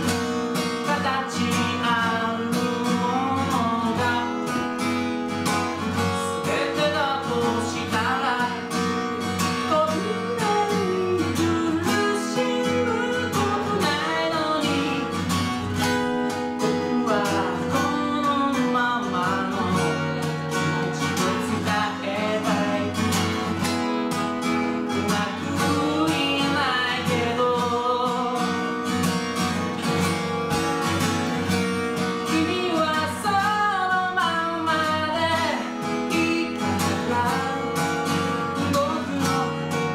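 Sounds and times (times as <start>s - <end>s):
man singing: 0.0s - 5.0s, 5.7s - 29.0s, 32.0s - 39.9s
acoustic guitar strumming: 0.0s - 39.9s.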